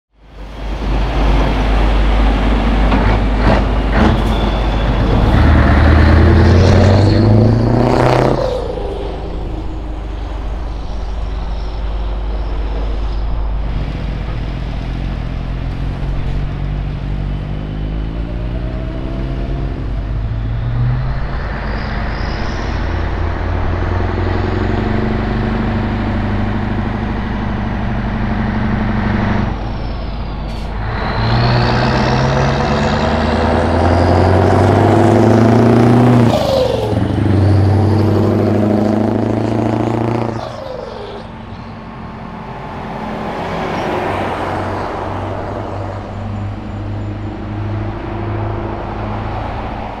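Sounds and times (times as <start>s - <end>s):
truck engine accelerating: 0.2s - 50.0s.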